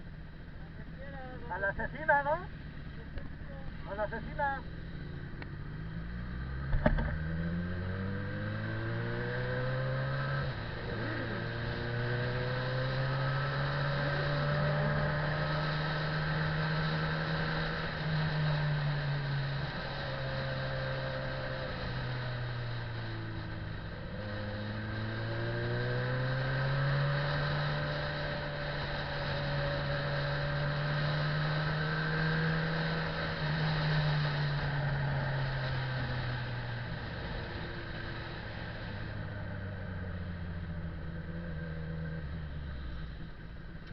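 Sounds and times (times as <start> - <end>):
motorcycle engine revving: 1.3 - 43.9.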